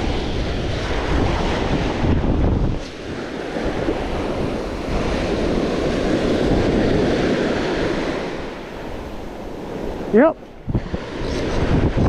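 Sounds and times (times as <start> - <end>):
surf breaking on sand: 0.0 - 12.0
wind buffeting microphone: 0.0 - 12.0.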